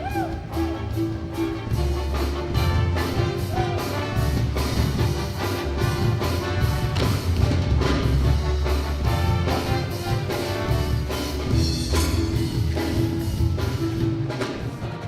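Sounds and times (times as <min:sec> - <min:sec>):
drums keeping a beat: 0:00.0 - 0:15.0
school band music: 0:00.0 - 0:15.0.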